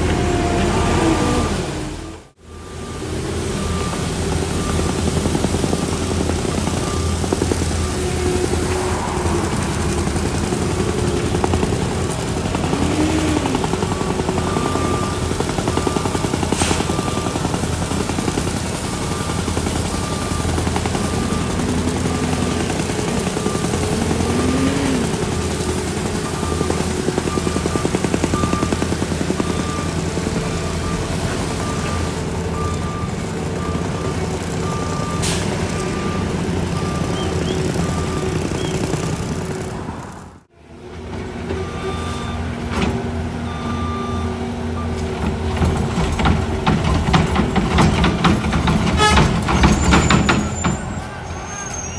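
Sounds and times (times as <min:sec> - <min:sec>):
reversing alarm beeping: 0:00.0 - 0:39.5, 0:41.5 - 0:51.9
diesel engine under load: 0:00.0 - 0:51.9.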